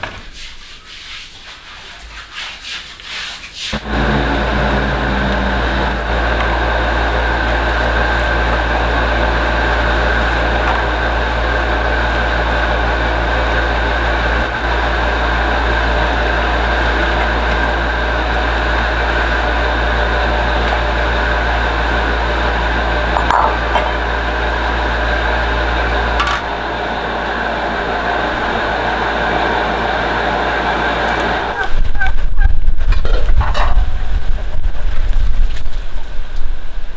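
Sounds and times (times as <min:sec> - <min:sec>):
machine whirring with low hum: 0:03.7 - 0:36.9.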